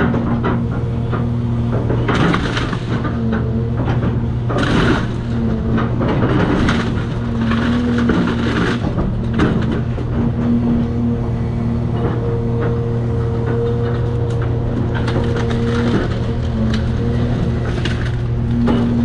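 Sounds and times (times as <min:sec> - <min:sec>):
debris crunching and cracking: 0:00.0 - 0:10.8, 0:11.9 - 0:19.0
excavator diesel engine running: 0:00.0 - 0:19.0.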